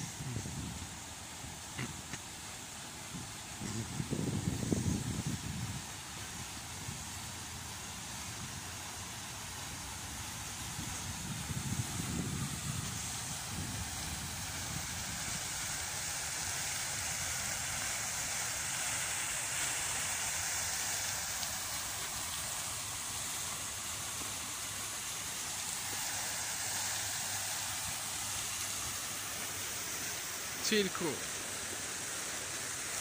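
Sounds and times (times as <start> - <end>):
fountain splashing into pool: 0.0 - 33.0.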